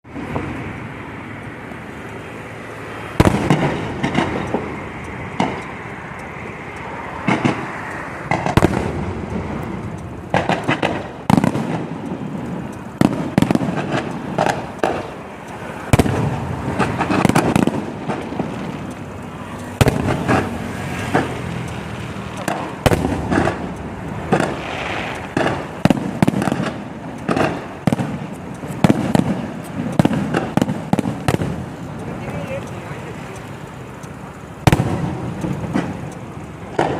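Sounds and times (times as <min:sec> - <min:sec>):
steady hiss: 0:00.1 - 0:36.9
fireworks bangs: 0:03.1 - 0:05.7, 0:07.2 - 0:33.3, 0:34.6 - 0:36.9.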